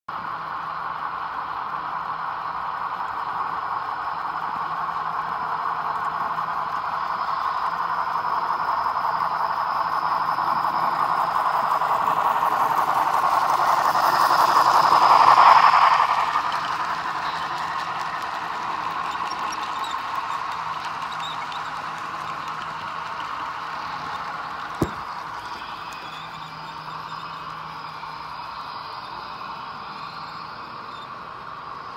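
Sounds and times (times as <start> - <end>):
model train wheels rattling on rail: 1.0 - 31.9.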